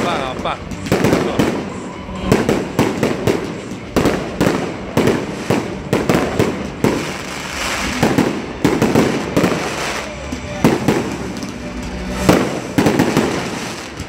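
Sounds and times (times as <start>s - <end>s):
fireworks banging: 0.0s - 14.0s
fireworks crackling hiss: 0.0s - 14.0s.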